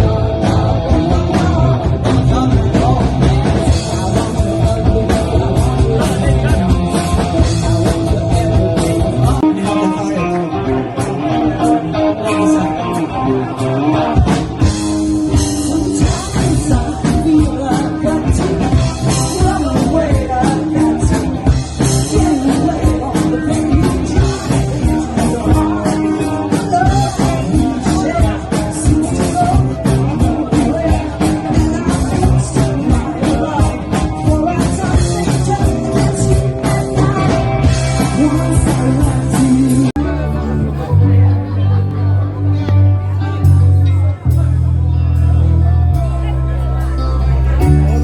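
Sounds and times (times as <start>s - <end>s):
electric guitar: 0.0s - 48.0s
live rock band playing: 0.0s - 48.0s
person singing: 0.0s - 48.0s.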